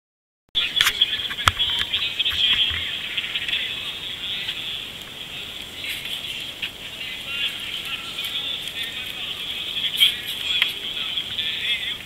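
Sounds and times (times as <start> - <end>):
water splashing: 0.6 - 12.0.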